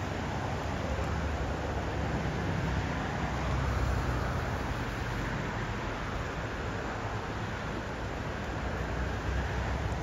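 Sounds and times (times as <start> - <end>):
outdoor rushing noise: 0.0 - 10.0.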